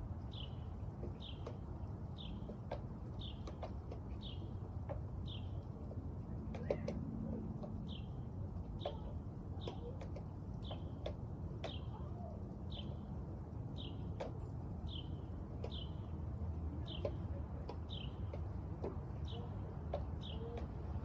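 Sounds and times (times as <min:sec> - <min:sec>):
small bird chirping: 0:00.2 - 0:21.0.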